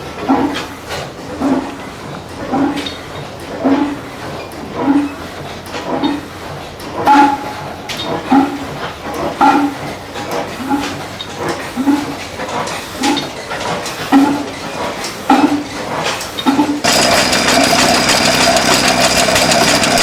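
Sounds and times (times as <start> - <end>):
engine running with mechanical clatter: 0.0 - 20.0.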